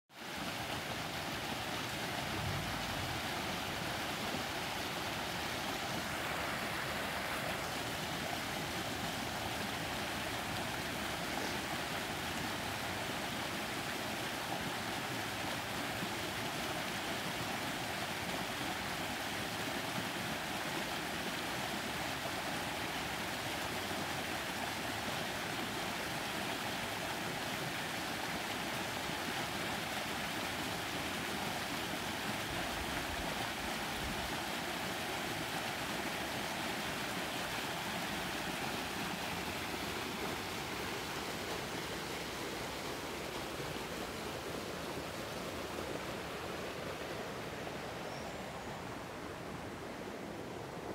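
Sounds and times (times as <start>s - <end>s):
stream cascading over rocks: 0.1s - 50.9s.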